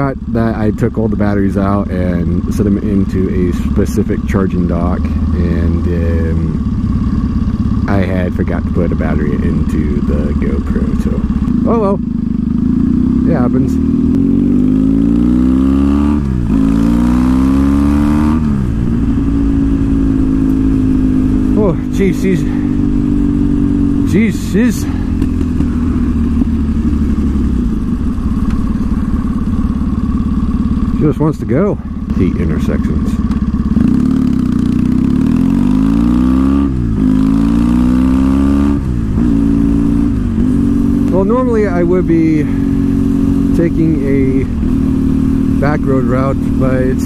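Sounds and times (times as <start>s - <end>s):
motorcycle engine shifting gears: 0.0s - 47.0s.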